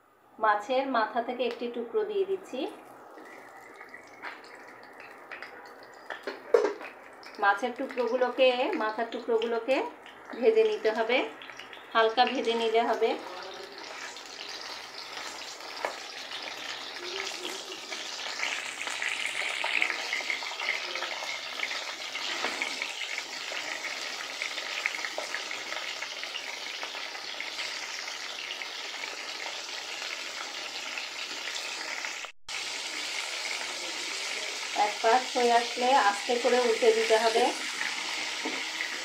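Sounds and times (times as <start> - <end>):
fish frying in oil: 3.1 - 39.0.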